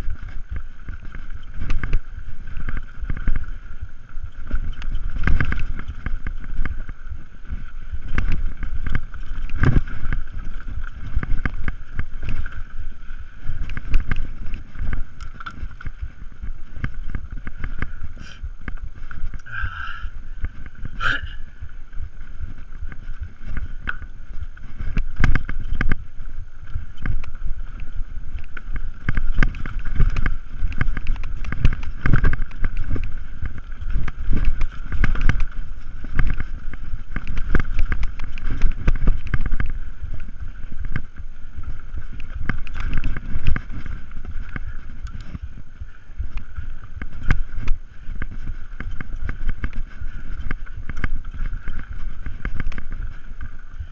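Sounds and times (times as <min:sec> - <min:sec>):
bike knocks and rattles: 0:00.0 - 0:21.3, 0:22.0 - 0:53.9
bike rumble: 0:00.0 - 0:53.9
wind rushing over microphone: 0:00.0 - 0:53.9.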